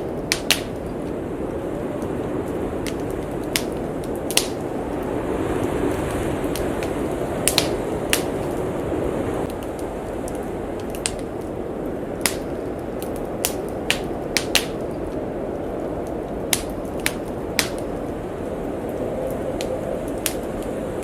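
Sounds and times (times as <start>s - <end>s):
sharp fire pops: 0.0s - 8.7s, 9.4s - 20.8s
blizzard wind rushing: 0.0s - 21.0s
wood fire crackling: 0.0s - 21.0s.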